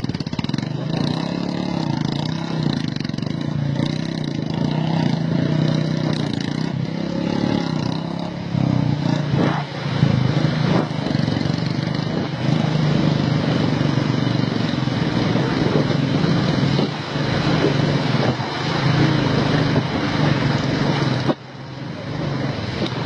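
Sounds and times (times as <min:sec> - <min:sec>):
motorcycle engine running: 0:00.0 - 0:23.0
wind on microphone: 0:00.4 - 0:23.0.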